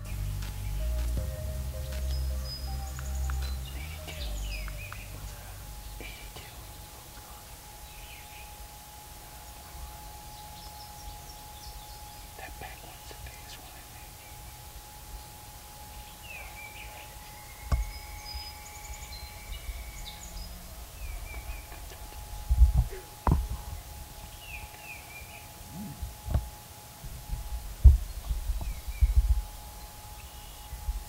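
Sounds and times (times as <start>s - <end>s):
low thumps: 0.0s - 24.8s, 25.4s - 31.0s
songbirds chirping: 0.0s - 31.0s
whistled bird note: 0.0s - 31.0s.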